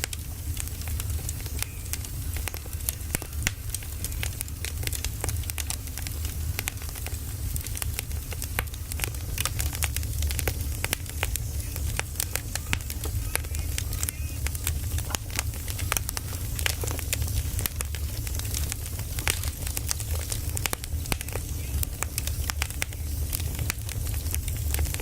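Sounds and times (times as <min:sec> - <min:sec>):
firewood crackling and popping: 0:00.0 - 0:25.0.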